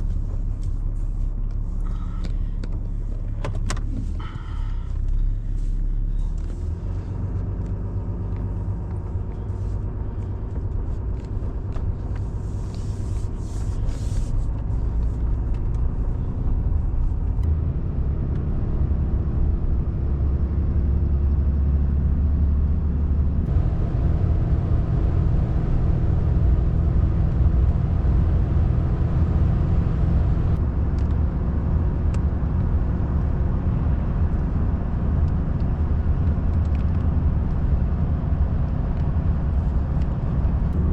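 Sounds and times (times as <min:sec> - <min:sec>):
truck engine and road noise: 0:00.0 - 0:40.9.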